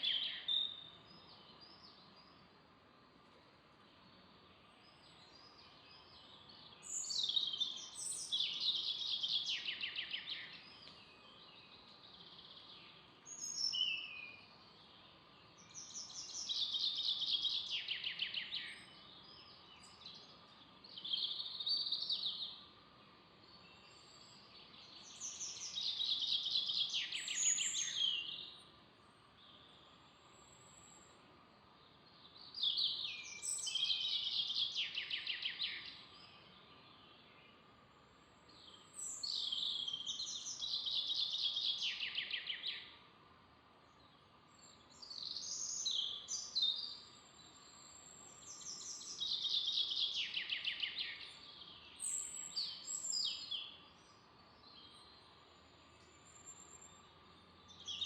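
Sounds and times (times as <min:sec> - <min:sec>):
forest background noise: 0:00.0 - 0:58.0.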